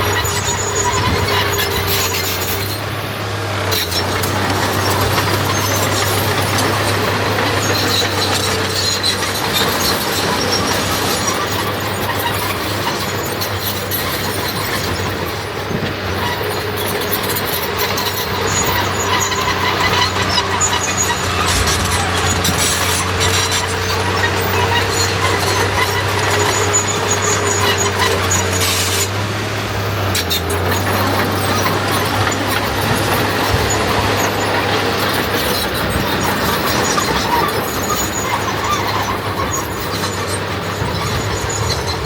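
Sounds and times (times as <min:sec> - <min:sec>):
high thin squeals: 0:00.0 - 0:03.1, 0:03.7 - 0:29.2, 0:30.1 - 0:42.0
diesel engine hum: 0:00.0 - 0:42.0.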